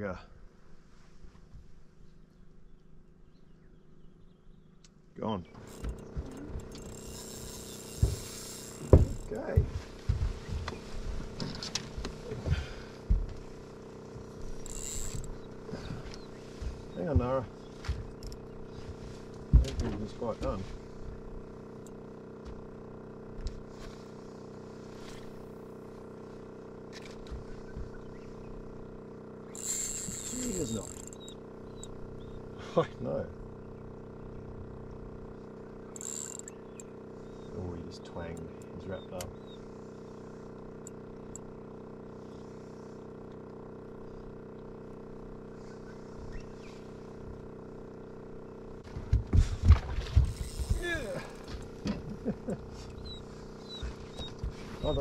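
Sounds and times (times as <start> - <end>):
boat motor humming: 1.6 - 55.0.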